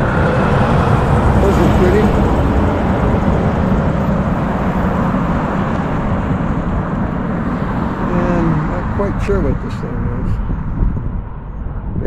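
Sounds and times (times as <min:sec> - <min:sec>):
street traffic: 0:00.0 - 0:12.0
wind buffeting microphone: 0:00.0 - 0:12.0.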